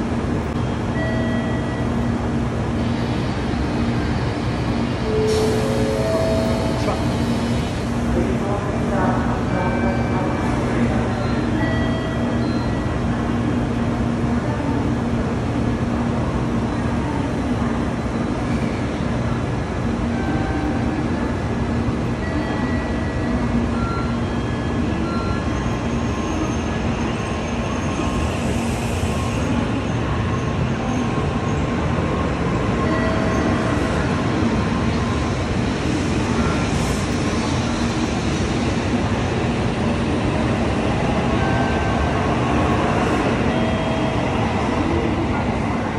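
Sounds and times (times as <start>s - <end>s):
train rumble and hum: 0.0s - 45.9s.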